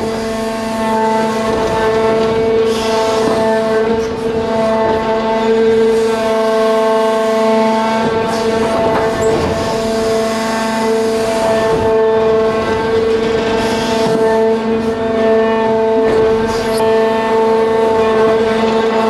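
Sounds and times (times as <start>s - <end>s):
hydraulic drive whine: 0.0s - 19.0s.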